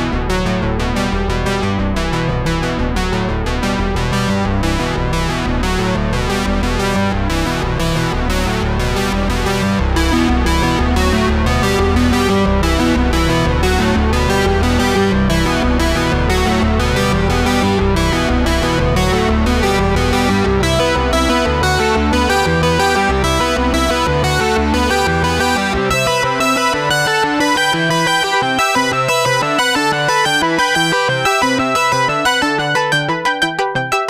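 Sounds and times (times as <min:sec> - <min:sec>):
bass: 0:00.0 - 0:34.0
synthesizer music with steady beat: 0:00.0 - 0:34.0.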